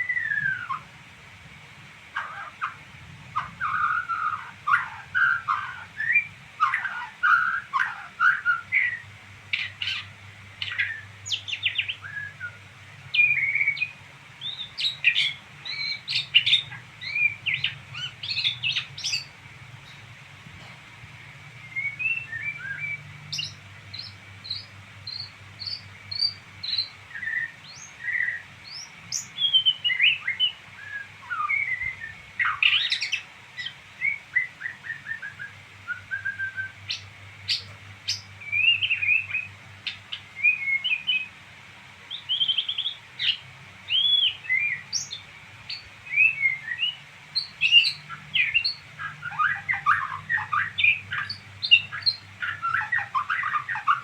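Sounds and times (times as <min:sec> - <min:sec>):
songbird twittering: 0:00.0 - 0:00.9, 0:02.2 - 0:20.0, 0:21.3 - 0:41.3, 0:42.1 - 0:54.0
faint low hum: 0:00.0 - 0:54.0.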